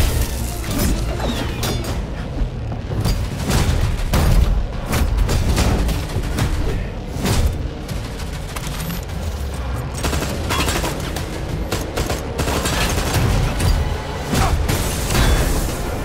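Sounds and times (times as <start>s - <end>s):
film score music: 0.0s - 16.0s.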